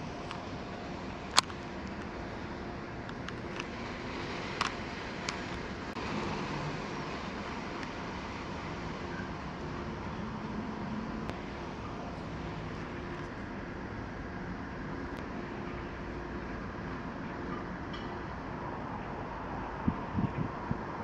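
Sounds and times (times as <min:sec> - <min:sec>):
distant road traffic hum: 0:00.0 - 0:21.0.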